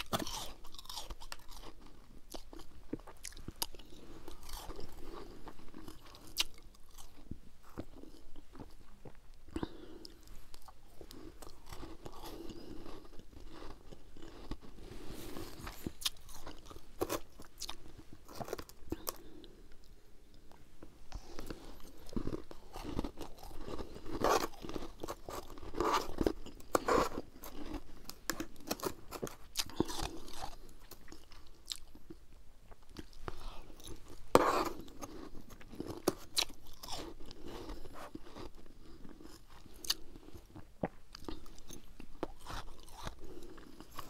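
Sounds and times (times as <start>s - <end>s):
frost crunching being chewed: 0.0s - 44.0s.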